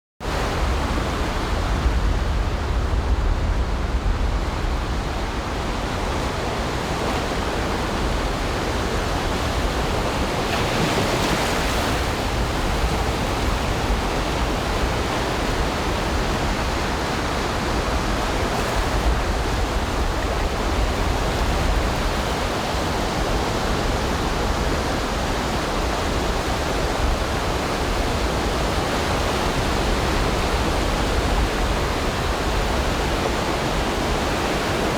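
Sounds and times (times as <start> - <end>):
ocean surf on a beach: 0.2 - 34.9.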